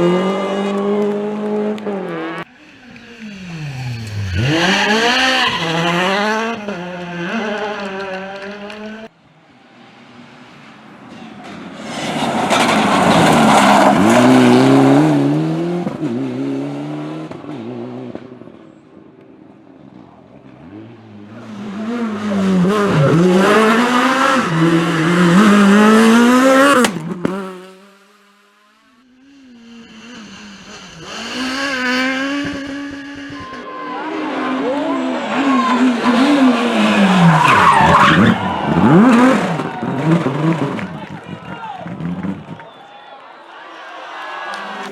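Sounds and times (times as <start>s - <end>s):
rally cars passing at speed: 0.0s - 42.9s, 43.8s - 44.9s.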